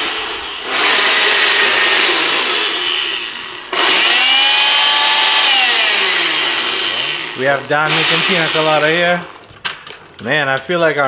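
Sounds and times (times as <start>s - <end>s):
electric blender running: 0.0s - 9.5s.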